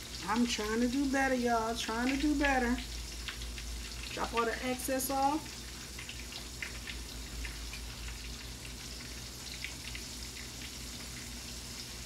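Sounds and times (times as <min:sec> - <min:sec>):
grease sizzling in a skillet: 0:00.0 - 0:12.0
oil popping and crackling: 0:00.0 - 0:12.0.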